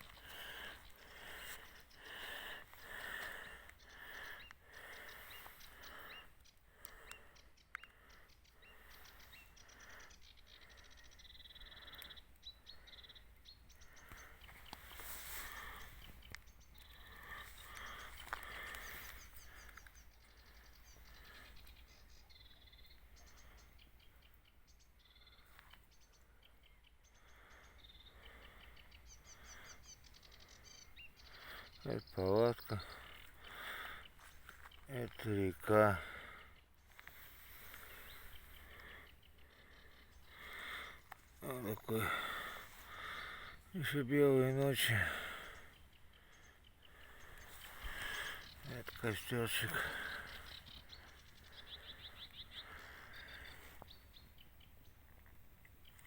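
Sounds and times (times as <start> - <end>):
birds chirping: 0.0 - 56.0
frogs croaking: 0.0 - 56.0.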